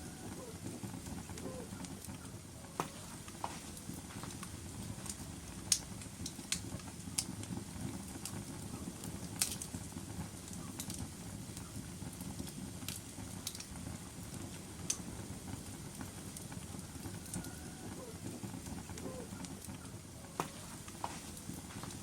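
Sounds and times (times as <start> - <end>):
fire popping and snapping: 0.0 - 22.0
low rumble of flames: 0.0 - 22.0
wood fire crackling: 0.0 - 22.0.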